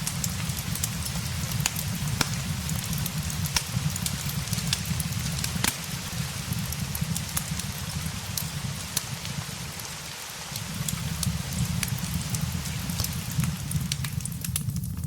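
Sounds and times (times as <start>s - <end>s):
crackling fireplace: 0.0s - 15.0s
steady rain: 0.0s - 15.0s.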